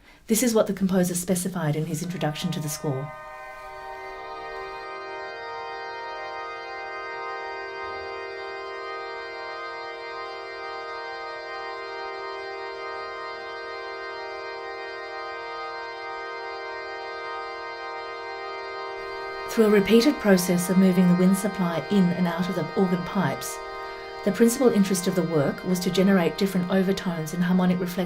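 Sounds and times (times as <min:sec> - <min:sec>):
pipe organ sustained chord: 0:01.6 - 0:28.0.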